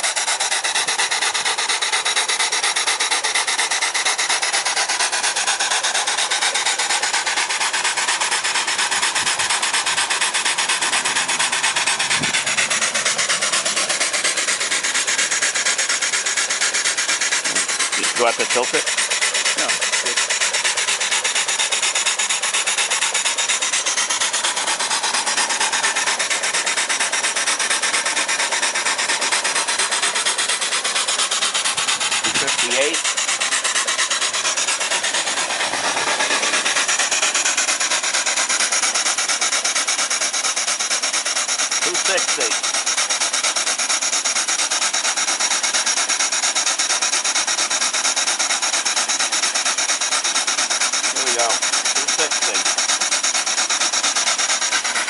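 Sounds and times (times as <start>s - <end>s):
steam engine chuffing: 0.0s - 55.0s
steam hiss: 0.0s - 55.0s.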